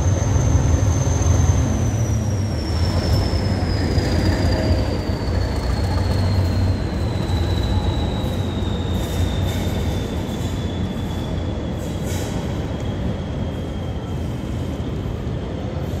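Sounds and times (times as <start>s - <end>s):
high wheel squeal: 0.0s - 14.8s
diesel train engine rumbling: 0.0s - 16.0s.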